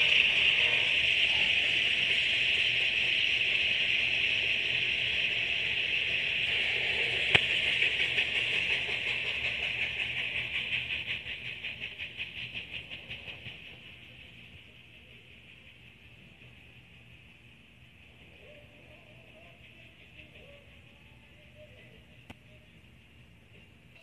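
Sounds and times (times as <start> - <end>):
freight train cars hissing: 0.0 - 24.0.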